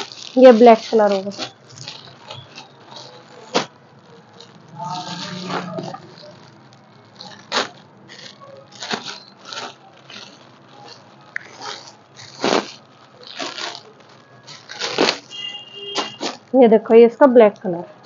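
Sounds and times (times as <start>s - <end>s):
plastic bag crinkling: 0.0s - 17.7s.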